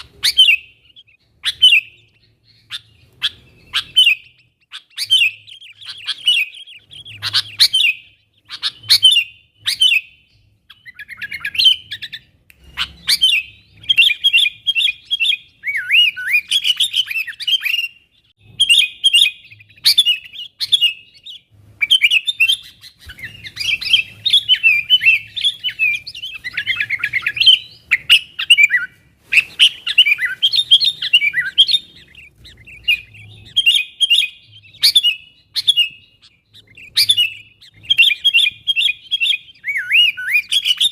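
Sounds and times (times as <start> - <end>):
bulbul chattering calls: 0.0 - 10.0, 10.7 - 40.9.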